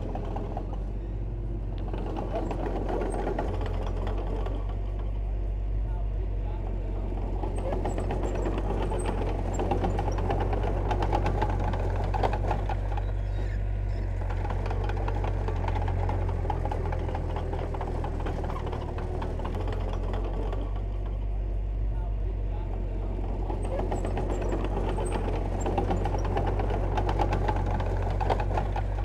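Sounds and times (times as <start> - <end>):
diesel machinery rumbling: 0.0 - 29.0.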